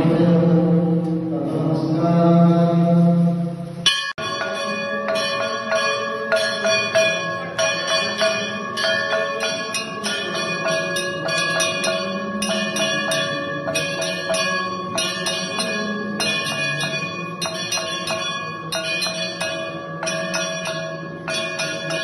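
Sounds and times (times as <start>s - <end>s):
temple bell ringing rapidly: 3.8s - 22.0s.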